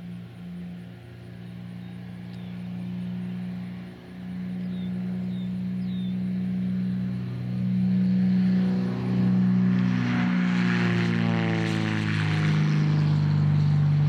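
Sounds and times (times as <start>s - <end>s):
twin aircraft engines droning: 0.0s - 14.0s.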